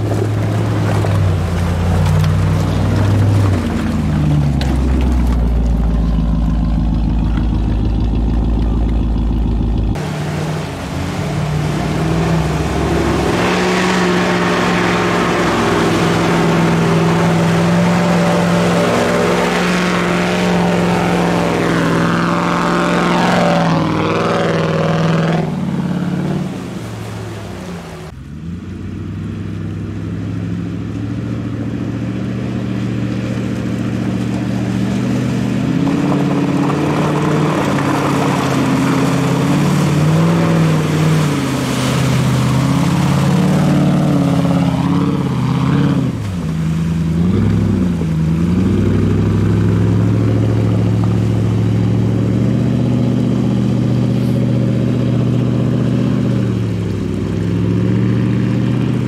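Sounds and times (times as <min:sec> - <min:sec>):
engine revving under load: 0:00.0 - 0:59.0
wheels spinning in mud: 0:00.0 - 0:59.0.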